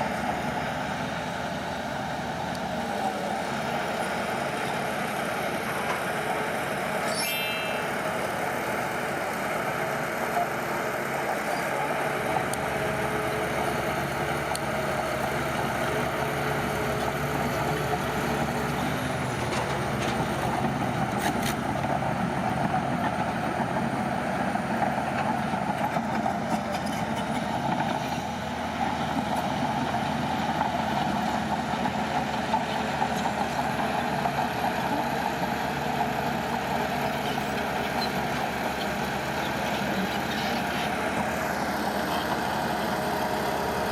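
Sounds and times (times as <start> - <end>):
construction machinery engine running: 0.0 - 43.9.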